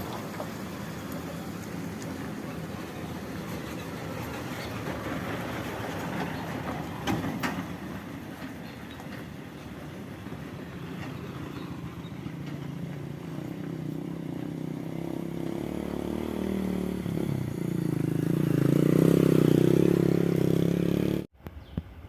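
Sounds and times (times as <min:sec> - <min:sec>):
truck engine labouring uphill: 0:00.0 - 0:21.3.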